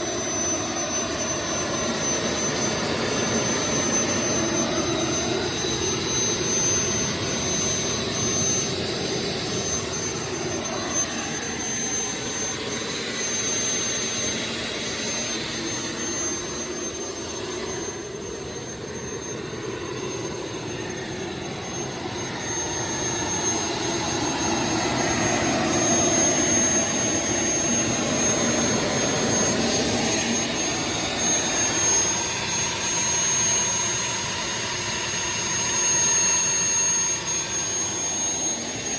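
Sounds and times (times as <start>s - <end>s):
gas turbine engine whine: 0.0s - 38.9s.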